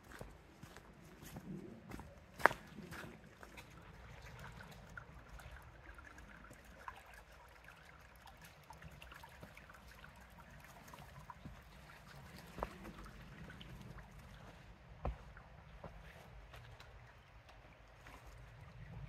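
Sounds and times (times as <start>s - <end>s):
brook trickling over rocks: 0.0s - 19.0s.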